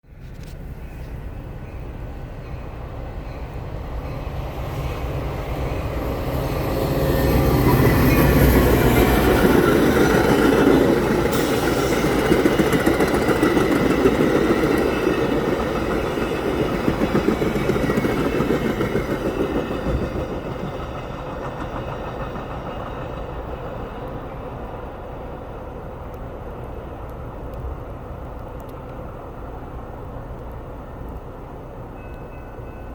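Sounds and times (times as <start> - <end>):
train passing at speed: 0.1 - 32.9.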